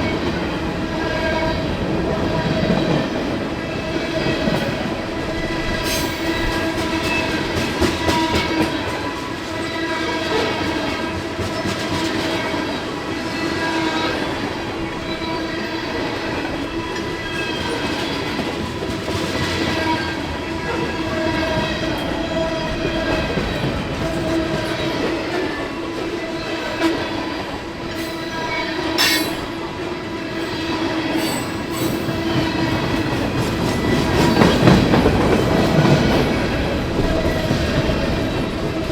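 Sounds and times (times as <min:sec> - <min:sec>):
train wheels squealing: 0:02.3 - 0:12.6, 0:13.2 - 0:38.9.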